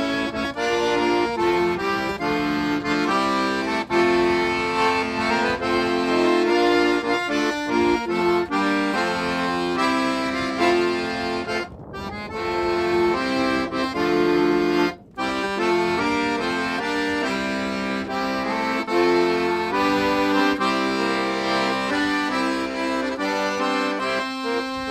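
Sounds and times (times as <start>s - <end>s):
accordion music: 0.0s - 24.9s.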